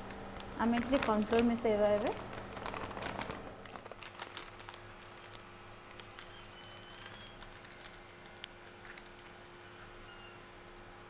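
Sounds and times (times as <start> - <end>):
powder pouring with light patter: 0.0 - 10.6
low steady hum: 0.0 - 11.0.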